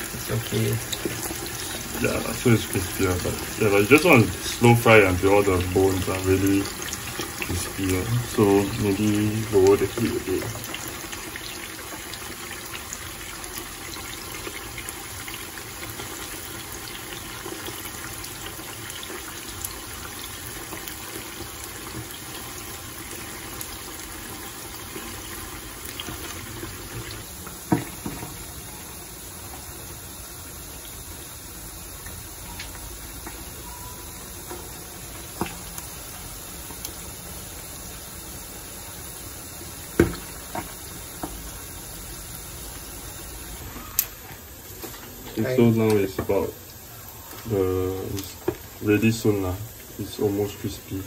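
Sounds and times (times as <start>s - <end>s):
fish sizzling in hot oil: 0.0s - 51.0s.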